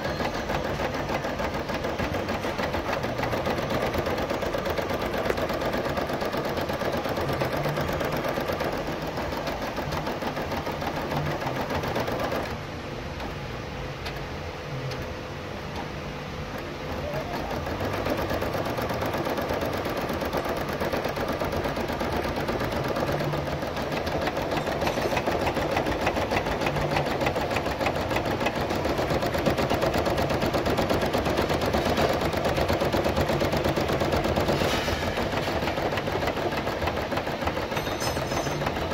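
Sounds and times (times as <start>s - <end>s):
embroidery machine needle clatter: 0.0s - 12.6s, 16.5s - 38.9s.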